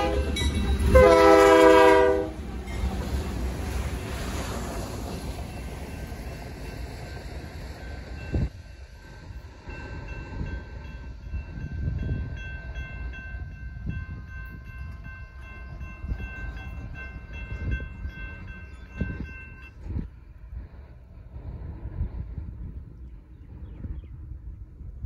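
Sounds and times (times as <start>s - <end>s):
railroad crossing bell ringing: 0.0s - 20.1s
train rumble: 0.0s - 25.0s.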